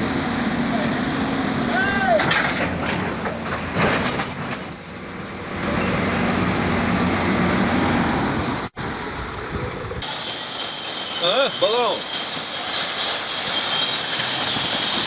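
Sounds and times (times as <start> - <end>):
heavy machinery engine rumbling: 0.0 - 15.0.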